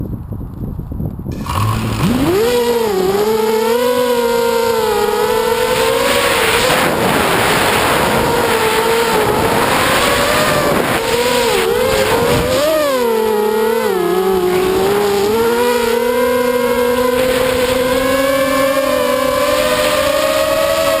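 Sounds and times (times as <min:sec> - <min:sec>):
drone motors whining: 0:01.4 - 0:21.0.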